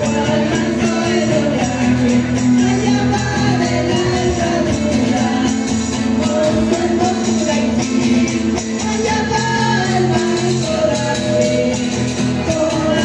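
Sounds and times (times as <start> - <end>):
tambourine beat: 0.0 - 13.0
voices singing: 0.0 - 13.0.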